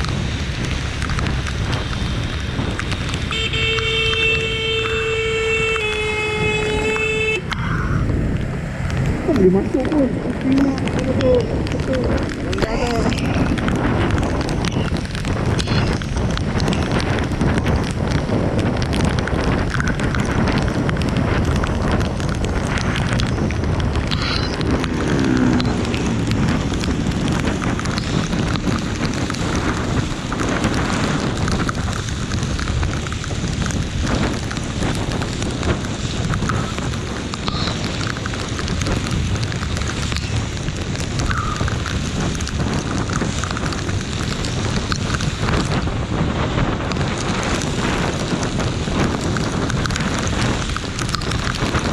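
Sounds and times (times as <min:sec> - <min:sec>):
wind rumble on microphone: 0:00.0 - 0:51.9
heavy rain hissing: 0:00.1 - 0:51.9.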